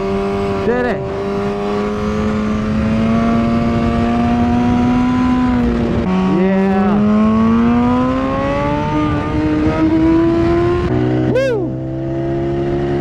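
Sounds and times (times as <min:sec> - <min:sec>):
motorcycle engine at part throttle: 0:00.0 - 0:13.0.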